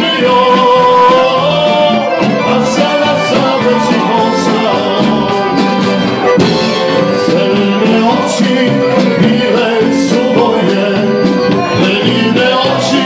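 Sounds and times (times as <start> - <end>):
accordion folk band music: 0.0 - 13.0
percussion hits: 0.0 - 13.0.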